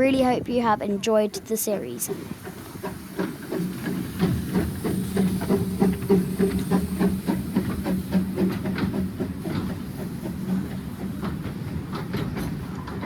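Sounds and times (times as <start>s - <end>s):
train rumble and hum: 0.0s - 13.0s
wheels clicking on rails: 0.0s - 13.0s
steam hissing: 2.1s - 12.7s.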